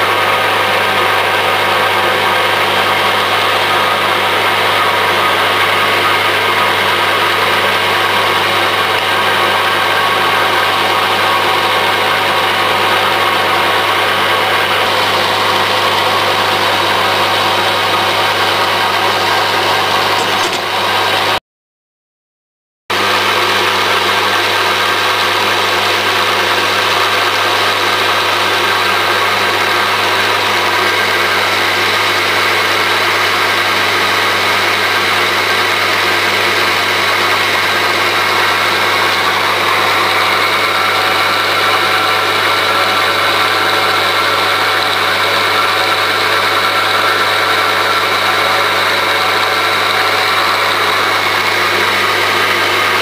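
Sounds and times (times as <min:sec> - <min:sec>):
motor and spinning shaft humming: 0:00.0 - 0:21.4, 0:23.0 - 0:53.0.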